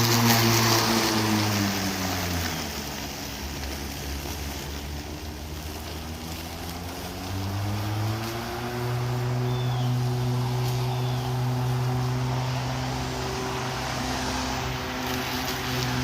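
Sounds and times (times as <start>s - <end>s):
electric lawn mower cutting grass: 0.0s - 16.0s.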